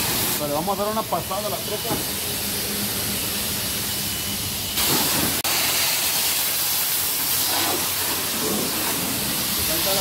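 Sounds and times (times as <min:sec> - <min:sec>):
pressure washer spraying water: 0:00.0 - 0:10.0.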